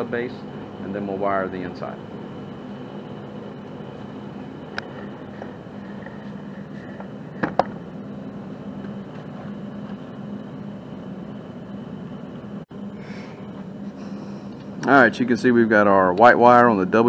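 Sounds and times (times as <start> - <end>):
low mechanical hum of machinery: 0.0 - 17.0.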